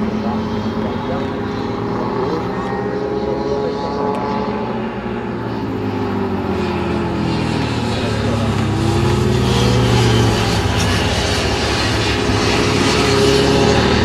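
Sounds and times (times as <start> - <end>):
motorcycle engines passing by: 0.0 - 14.0.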